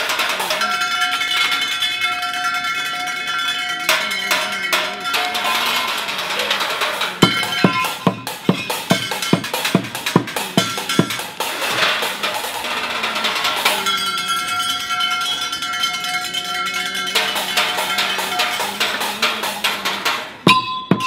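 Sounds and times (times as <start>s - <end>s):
drumsticks beating on pots and metal: 0.0s - 21.0s
ringing metallic tones: 0.0s - 21.0s.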